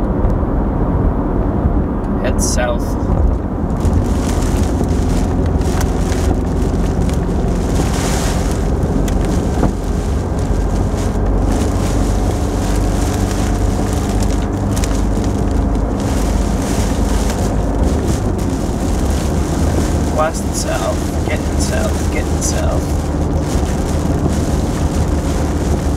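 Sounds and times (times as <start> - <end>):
car road and engine noise: 0.0 - 25.9
rain ticking on windshield: 2.4 - 25.9.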